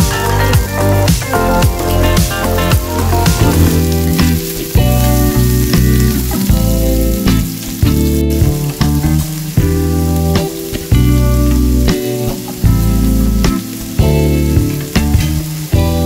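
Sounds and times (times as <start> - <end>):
background music with plucked notes: 0.0 - 16.0
onions sizzling in oil: 0.0 - 16.0.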